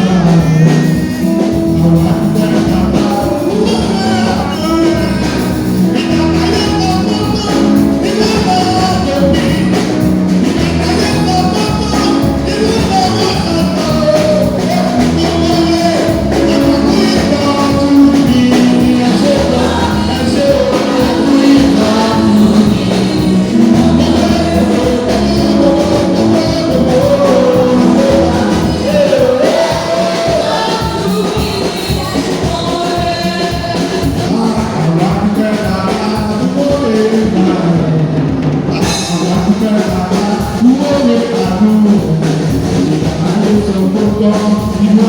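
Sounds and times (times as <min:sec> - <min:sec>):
voices singing with band: 0:00.0 - 0:45.0.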